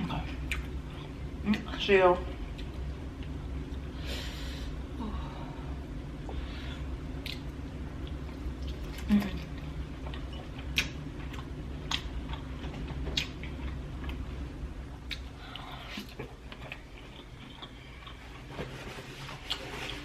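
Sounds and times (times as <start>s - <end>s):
steady low hum: 0.0s - 20.0s
chewing and wet mouth sounds: 0.2s - 1.7s, 2.3s - 3.9s, 6.2s - 18.6s, 19.2s - 20.0s.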